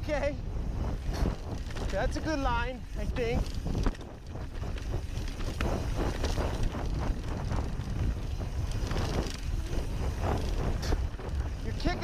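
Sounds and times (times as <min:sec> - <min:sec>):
bike rattling over bumps: 0:00.0 - 0:12.0
bike tyres on dirt trail: 0:00.0 - 0:12.0
wind rumble on microphone: 0:00.0 - 0:12.0.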